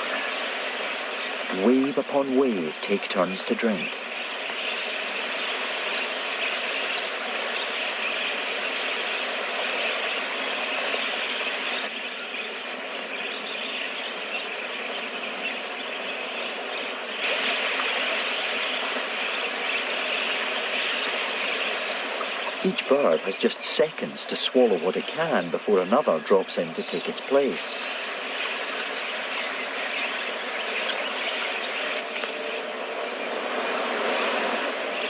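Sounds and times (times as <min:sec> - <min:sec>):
budgerigar flock chattering: 0:00.0 - 0:35.0.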